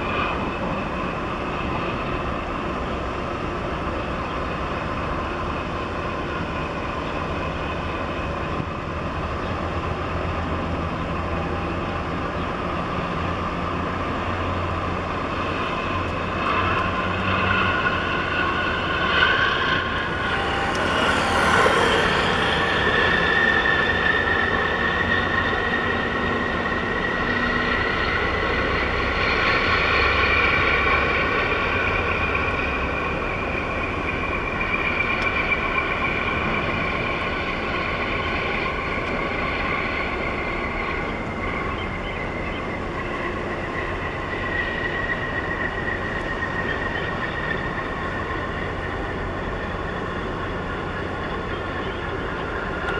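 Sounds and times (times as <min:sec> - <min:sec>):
diesel engines droning with whine: 0:00.0 - 0:52.9.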